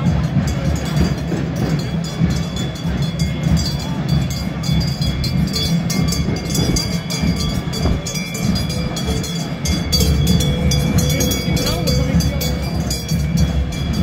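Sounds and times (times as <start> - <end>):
large cowbells clanging: 0.0 - 14.0.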